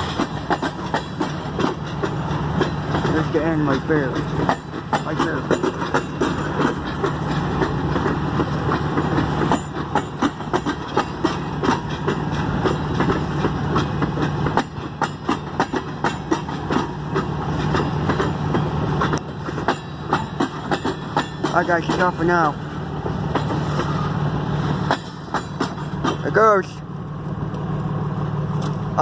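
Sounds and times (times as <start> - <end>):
low train rumble: 0.0 - 29.0
train wheels clacking on rail joints: 0.0 - 29.0.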